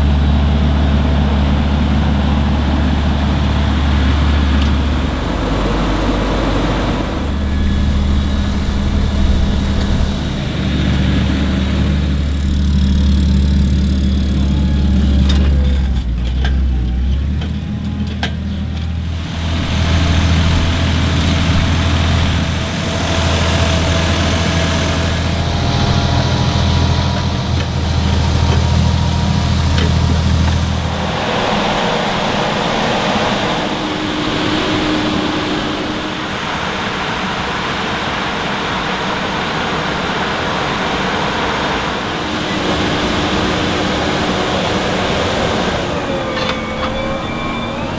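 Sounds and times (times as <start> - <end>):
diesel farm machinery engines droning: 0.0 - 47.9.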